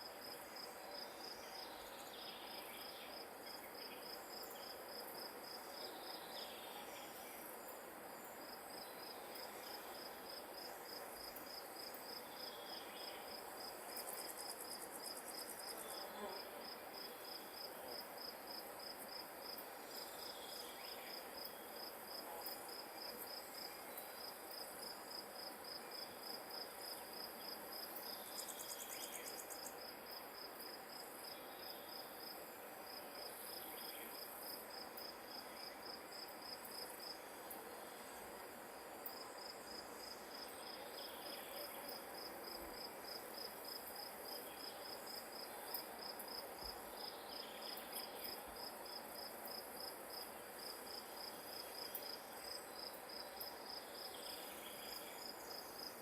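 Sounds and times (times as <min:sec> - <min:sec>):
faint outdoor hiss: 0:00.0 - 0:56.0.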